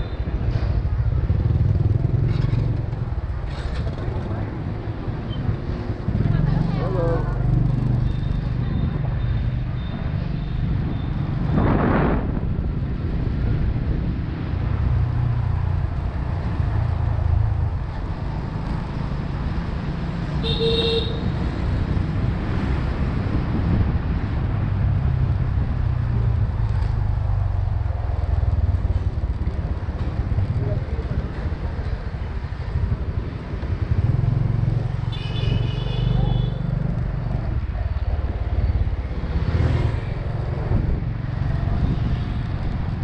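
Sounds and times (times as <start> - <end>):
wind and road noise: 0.0 - 43.0.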